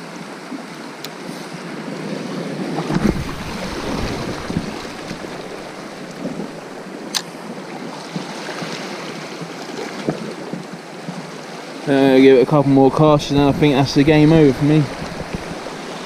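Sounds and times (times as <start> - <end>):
waves on rocky shore: 0.0 - 16.0
wind buffeting microphone: 1.5 - 11.4, 12.0 - 16.0.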